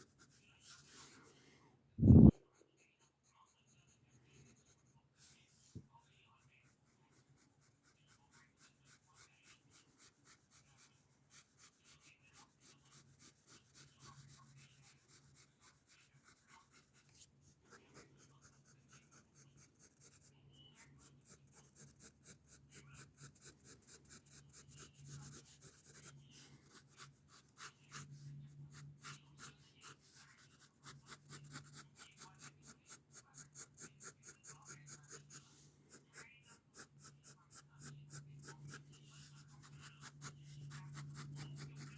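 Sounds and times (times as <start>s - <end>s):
pencil scratching on paper: 0.0s - 1.3s, 2.0s - 41.9s
faint low hum: 0.0s - 41.9s.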